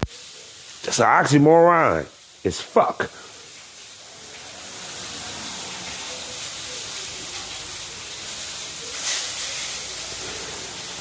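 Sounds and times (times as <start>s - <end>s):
steady hissing: 0.0s - 11.0s.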